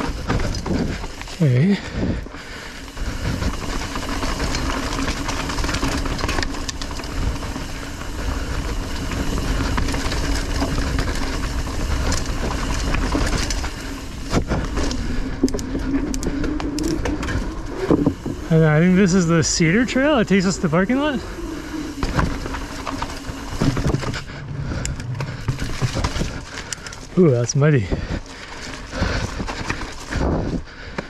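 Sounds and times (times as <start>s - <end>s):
bike tyres rumbling on trail: 0.0s - 31.0s
continuous buzzing tone: 0.0s - 31.0s
knocks and rattles over roots: 0.0s - 31.0s.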